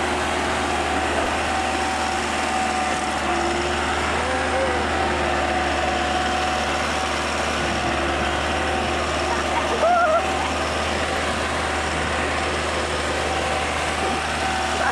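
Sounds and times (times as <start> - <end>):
steady whine: 0.0 - 14.9
tractor diesel engine drone: 0.0 - 14.9.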